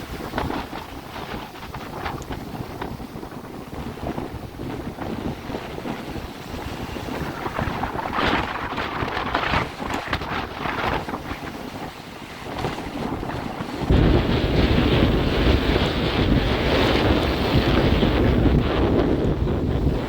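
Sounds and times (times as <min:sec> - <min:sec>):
surf rushing: 0:00.0 - 0:20.0
wind gusting on microphone: 0:00.0 - 0:20.0.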